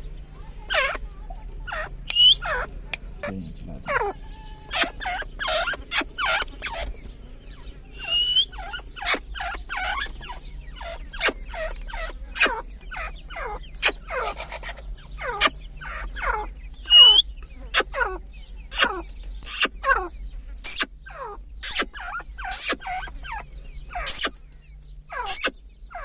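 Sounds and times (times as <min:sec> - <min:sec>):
francolins calling: 0:00.0 - 0:26.0.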